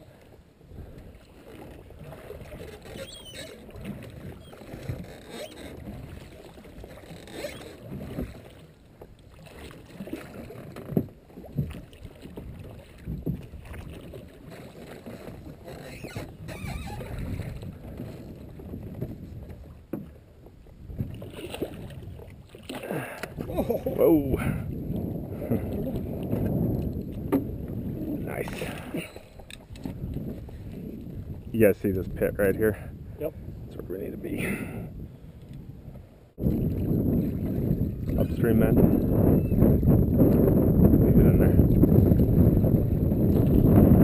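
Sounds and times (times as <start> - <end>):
water splashes: 0.0 - 20.2, 20.9 - 32.8, 36.4 - 40.5
water lapping against boat hull: 0.0 - 44.0.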